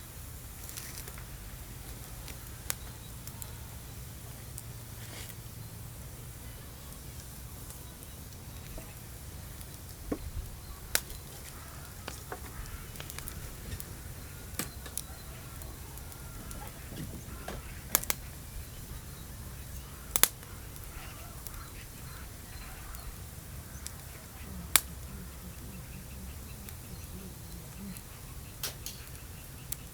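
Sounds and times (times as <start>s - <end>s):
faint bird chirps: 5.4s - 29.9s.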